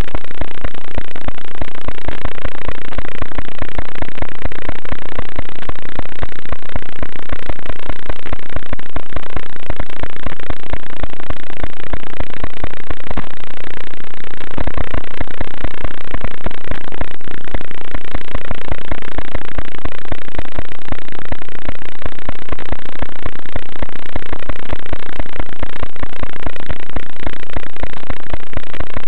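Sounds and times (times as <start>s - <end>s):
crackling static buzz: 0.0s - 29.0s.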